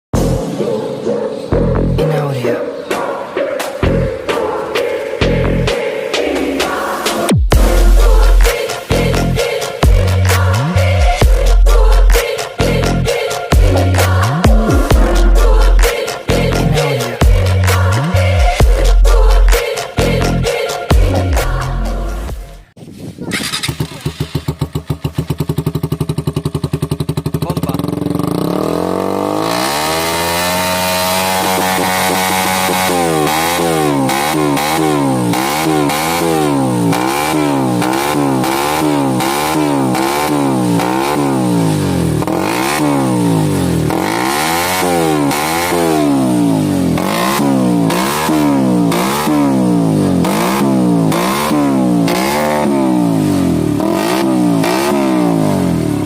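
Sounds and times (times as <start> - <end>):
motorcycle engine revving: 0.0 - 22.4, 23.2 - 56.0.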